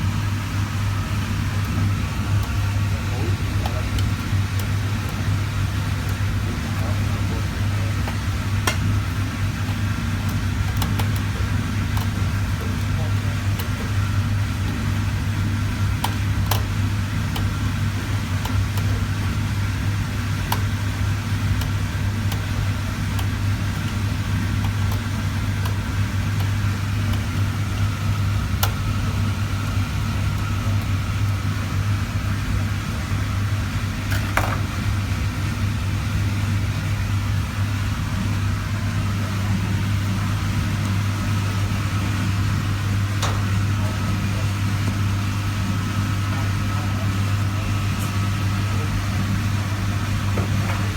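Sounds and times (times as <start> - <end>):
refrigerator compressor humming: 0.0 - 50.9.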